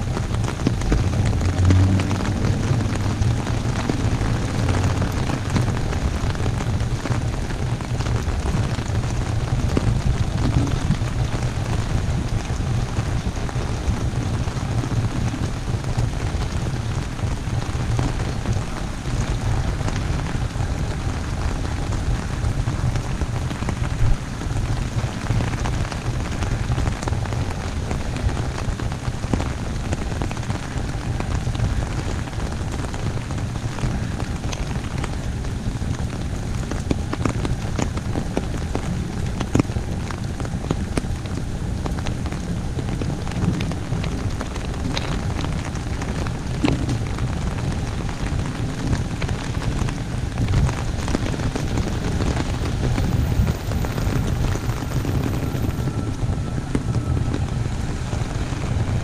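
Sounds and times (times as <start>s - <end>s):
heavy rain on umbrella: 0.0s - 59.0s.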